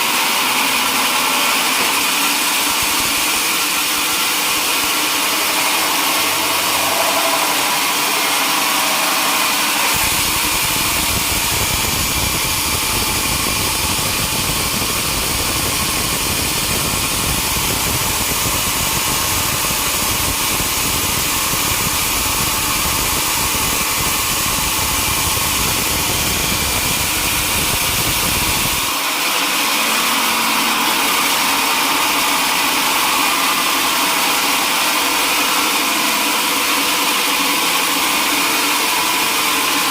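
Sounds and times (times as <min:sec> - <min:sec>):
sawmill machinery sawing wood: 0:00.0 - 0:39.9.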